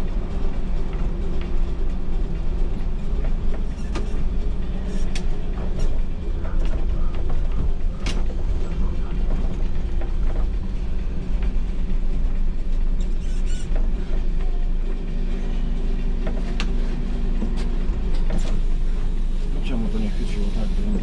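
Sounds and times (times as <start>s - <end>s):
bus diesel engine: 0.0s - 21.0s
road rumble: 0.0s - 21.0s
steady humming note: 0.0s - 21.0s.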